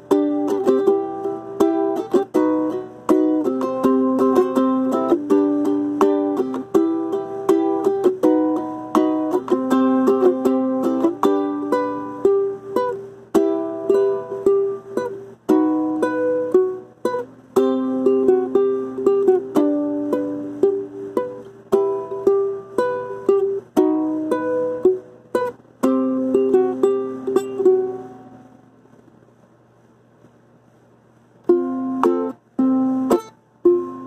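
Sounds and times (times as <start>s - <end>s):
ukulele playing: 0.0s - 28.7s, 31.4s - 34.0s.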